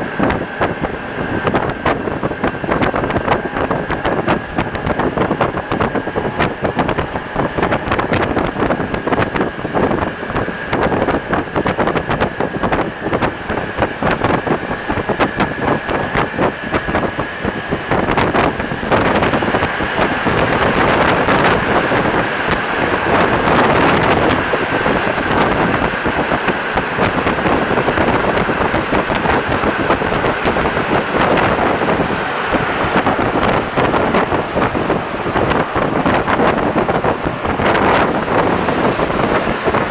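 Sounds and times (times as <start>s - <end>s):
metro train running: 0.0s - 39.9s
steady high whine: 0.0s - 39.9s.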